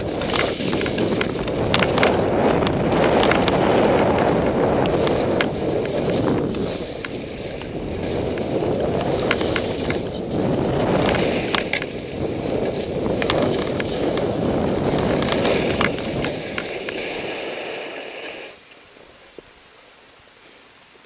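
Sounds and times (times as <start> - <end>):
wind buffeting microphone: 0.0 - 17.9
skis scraping across snow: 0.0 - 19.2.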